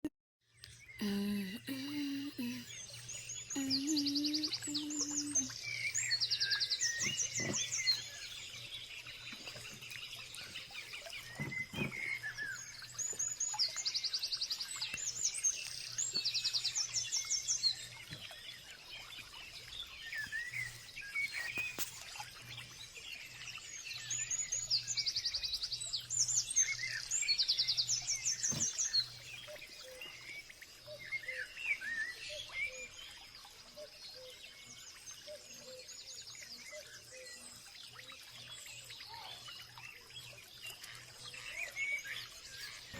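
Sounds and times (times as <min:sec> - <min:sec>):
songbirds singing trills: 0:00.5 - 0:42.9.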